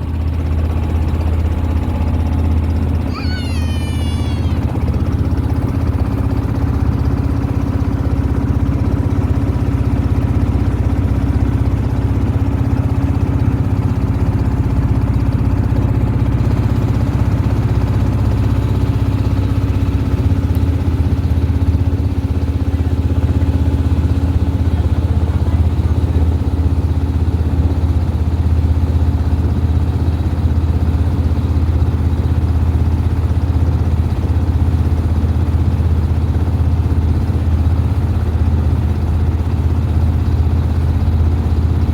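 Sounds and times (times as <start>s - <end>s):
boat engine humming: 0.0s - 41.9s.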